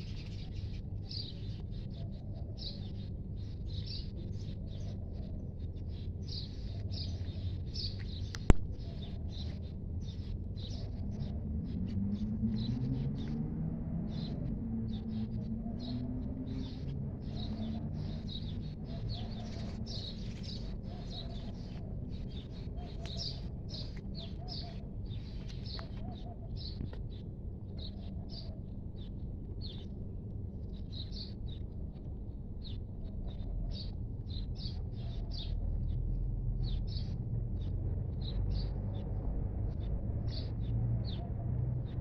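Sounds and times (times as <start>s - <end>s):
small birds chirping: 0.0s - 30.0s, 30.6s - 42.0s
low background rumble: 0.0s - 42.0s.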